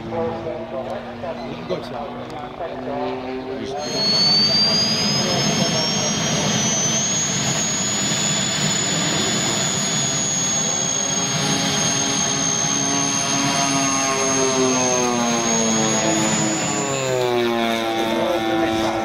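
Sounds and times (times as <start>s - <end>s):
model turboprop engine whine: 0.0s - 19.0s.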